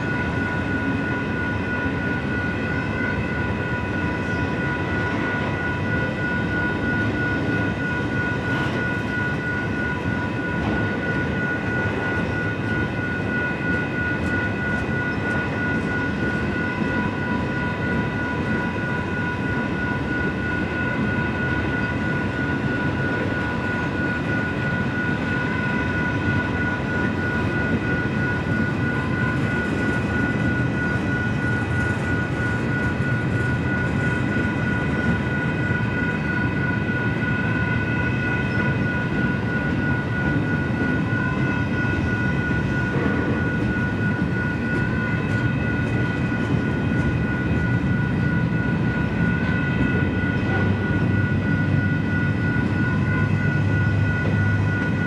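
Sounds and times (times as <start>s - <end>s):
crossing bell ringing: 0.0s - 55.0s
freight train wheels rumbling: 0.0s - 55.0s.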